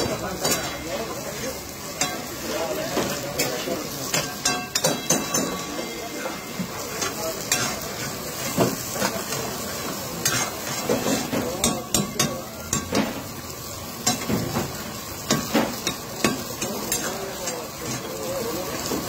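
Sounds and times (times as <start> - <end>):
food sizzling in pan: 0.0 - 19.0.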